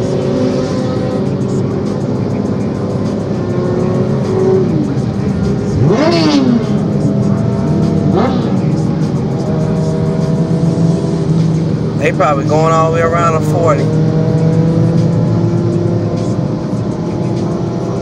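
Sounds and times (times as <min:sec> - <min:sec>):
highway traffic drone: 0:00.0 - 0:18.0
motorcycle engines revving: 0:00.0 - 0:18.0.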